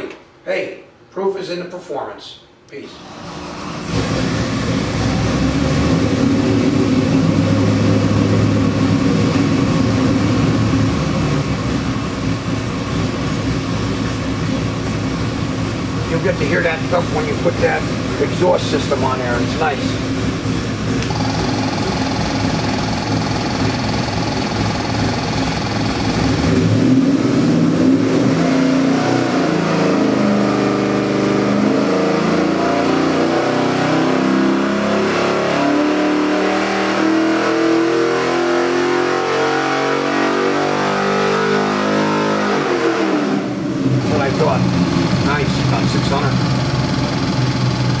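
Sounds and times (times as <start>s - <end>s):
engine revving on dynamometer: 2.9s - 48.0s.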